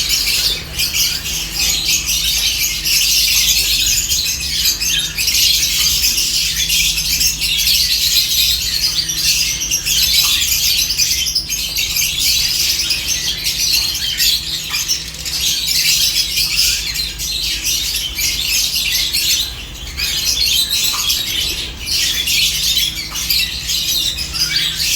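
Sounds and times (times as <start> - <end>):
birds chirping and squawking: 0.0 - 24.9.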